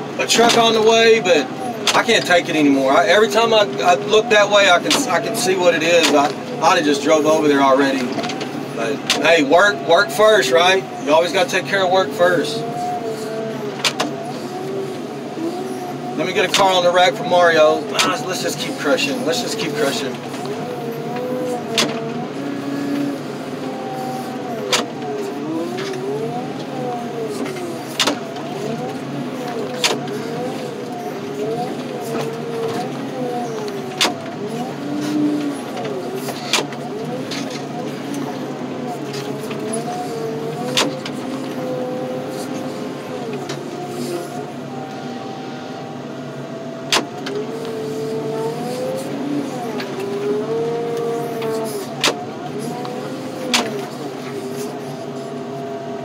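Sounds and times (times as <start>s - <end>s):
hydraulic lift whining: 0.0s - 56.0s.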